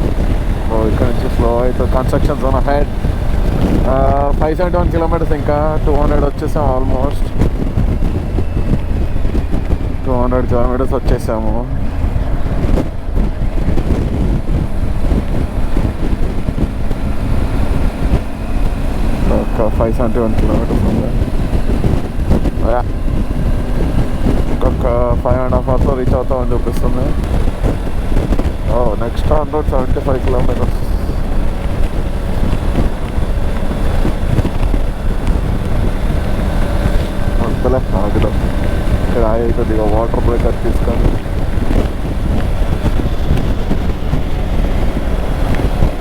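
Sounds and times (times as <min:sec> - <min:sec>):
faint motorcycle engine tone: 0:00.0 - 0:46.0
road noise: 0:00.0 - 0:46.0
wind buffeting microphone: 0:00.0 - 0:46.0.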